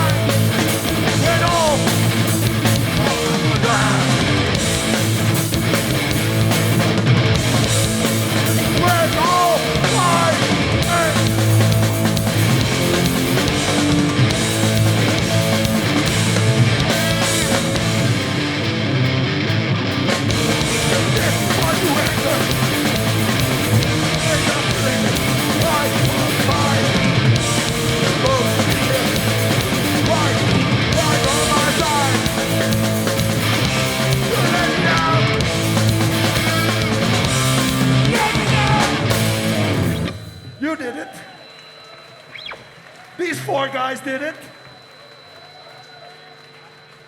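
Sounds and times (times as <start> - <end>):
hardcore punk band playing live: 0.0 - 40.5
distorted electric guitars: 0.0 - 40.6.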